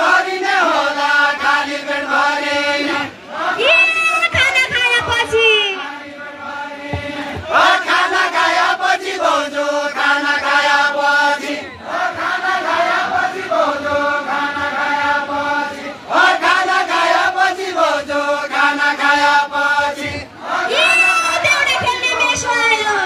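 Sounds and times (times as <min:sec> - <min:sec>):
group singing folk song: 0:00.0 - 0:22.5.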